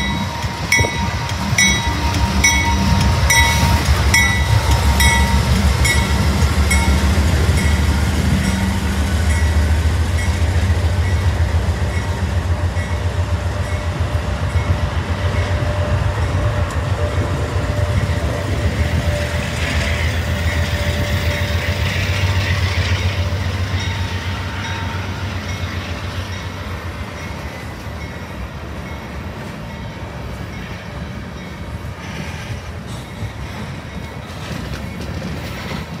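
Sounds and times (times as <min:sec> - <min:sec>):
locomotive engines rumbling: 0:00.0 - 0:36.0
train wheels rumbling on rails: 0:00.0 - 0:36.0.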